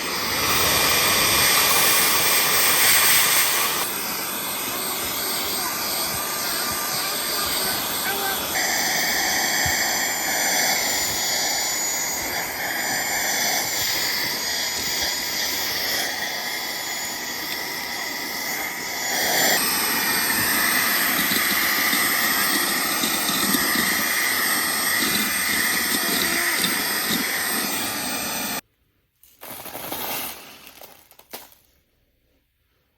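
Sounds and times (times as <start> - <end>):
handheld vacuum motor whine: 0.0 - 28.6.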